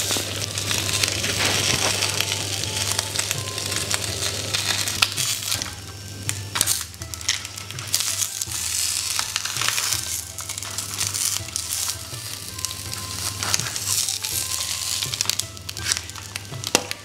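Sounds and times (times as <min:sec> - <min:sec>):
background music: 0:00.0 - 0:17.0
leaf wrappers crinkling: 0:00.0 - 0:17.0.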